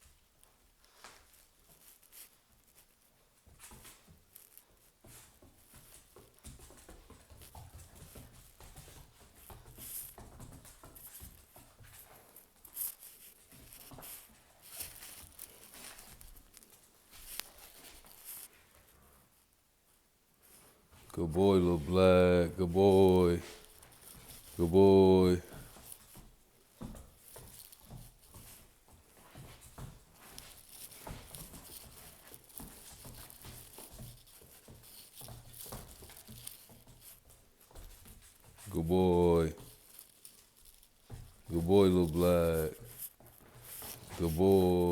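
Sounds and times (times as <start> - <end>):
puppy scuffling and rustling: 0.0 - 21.2, 21.8 - 24.7, 25.4 - 38.8, 39.4 - 44.9.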